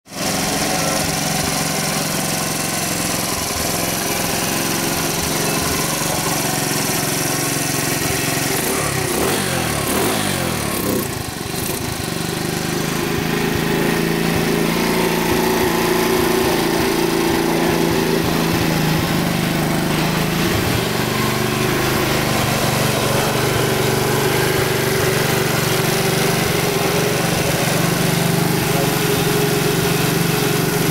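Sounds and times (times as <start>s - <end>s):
motorcycle engine idling: 0.1s - 30.9s.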